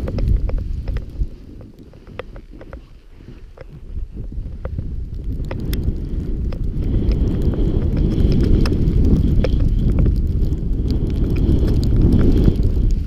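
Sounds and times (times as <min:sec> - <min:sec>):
sharp ticks: 0:00.0 - 0:03.8, 0:04.5 - 0:13.0
snowboard sliding over snow: 0:00.0 - 0:13.0
wind buffeting microphone: 0:00.0 - 0:13.0.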